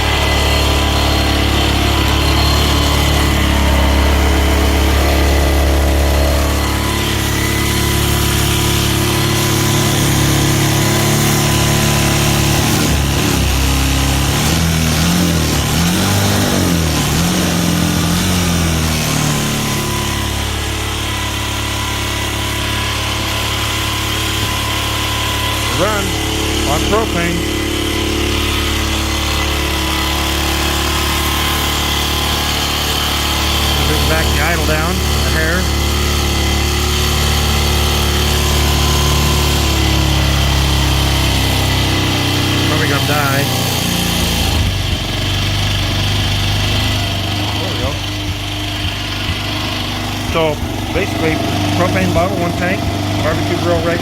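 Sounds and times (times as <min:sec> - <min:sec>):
small atv engine running: 0:00.0 - 0:54.0.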